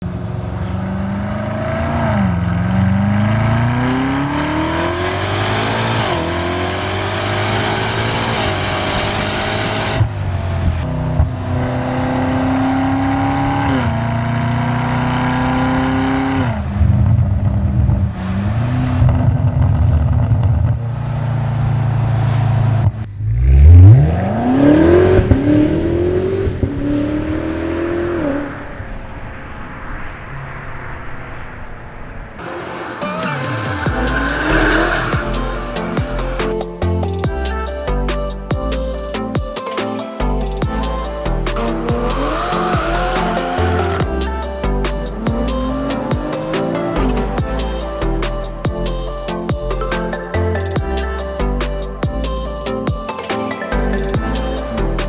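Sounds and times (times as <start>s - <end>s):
car engine accelerating hard: 0.0s - 31.7s, 32.4s - 38.6s, 40.3s - 52.6s.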